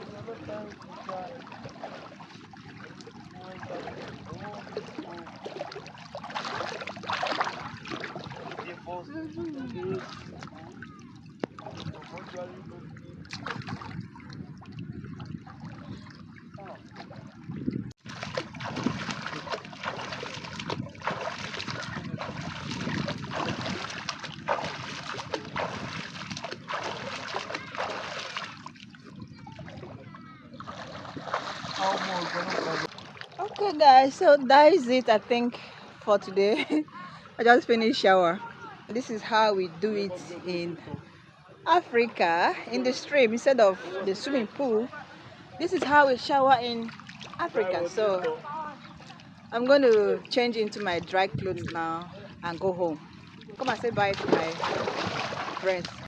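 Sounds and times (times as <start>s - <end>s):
water splashing: 0.0s - 36.0s, 45.6s - 56.0s.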